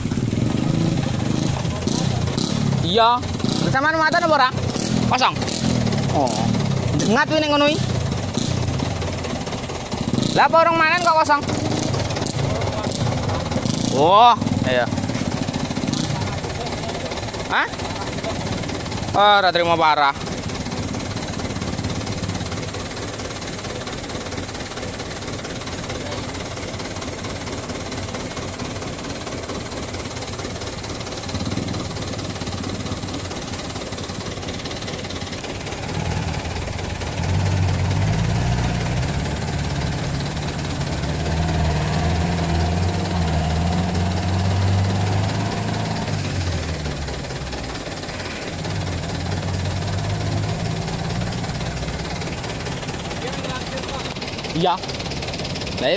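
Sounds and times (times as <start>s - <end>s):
diesel truck engine straining: 0.0s - 55.9s.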